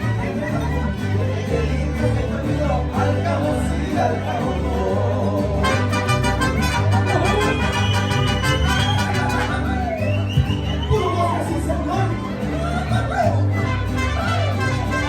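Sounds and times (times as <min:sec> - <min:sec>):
deep bass line: 0:00.0 - 0:15.0
mariachi band playing: 0:00.0 - 0:15.0.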